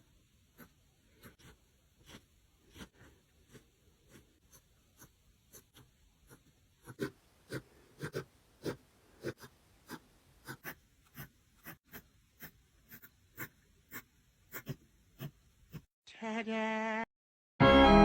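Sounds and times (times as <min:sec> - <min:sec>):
pencil scratching on paper: 0:00.0 - 0:15.9.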